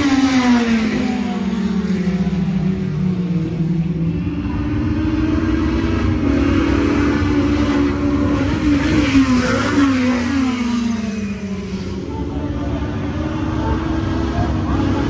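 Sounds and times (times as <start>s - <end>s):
race car engines downshifting: 0.0s - 15.0s.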